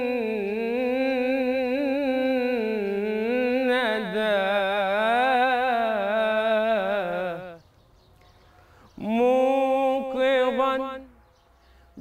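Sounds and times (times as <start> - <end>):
man singing religious chant: 0.0 - 7.7, 8.9 - 11.3.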